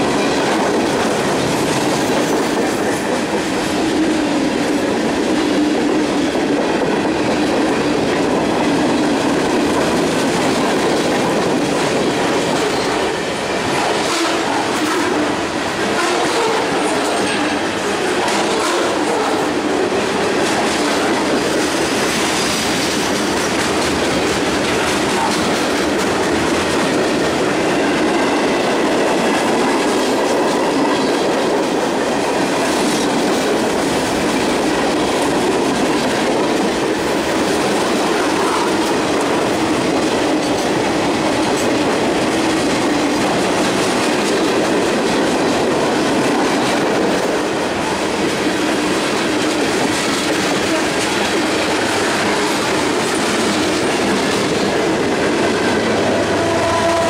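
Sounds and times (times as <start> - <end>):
train wheels rumbling on rail: 0.0 - 57.0
wheels clickety-clack over joints: 0.0 - 57.0.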